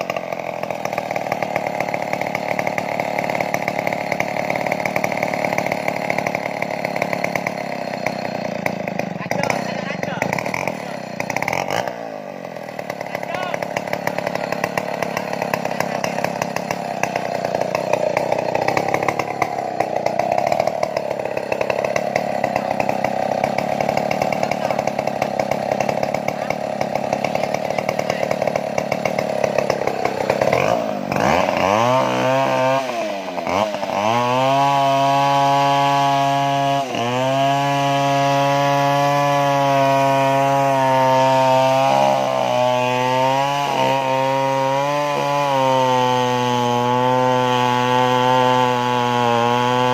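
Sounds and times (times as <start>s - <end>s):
chainsaw cutting tree trunk: 0.0s - 49.9s.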